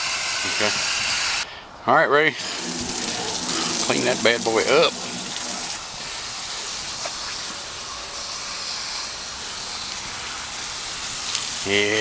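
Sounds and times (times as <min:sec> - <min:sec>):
hose water spraying: 0:00.0 - 0:01.4, 0:02.4 - 0:12.0.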